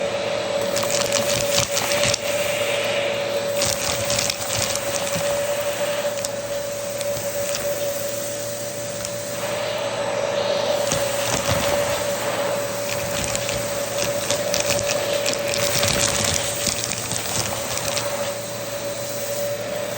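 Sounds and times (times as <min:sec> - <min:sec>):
vacuum cleaner running: 0:00.0 - 0:19.9
debris clicking as sucked up: 0:00.6 - 0:09.5, 0:10.7 - 0:19.5.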